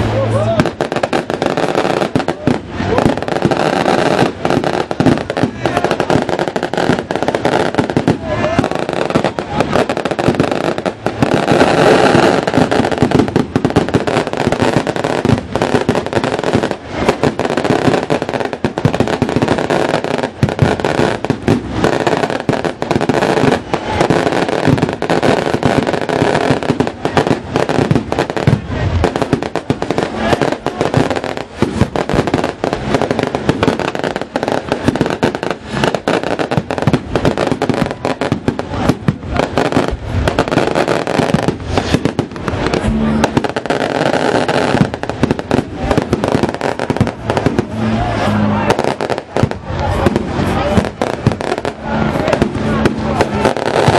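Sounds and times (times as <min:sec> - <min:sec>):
fireworks and firecrackers banging: 0:00.0 - 0:53.9.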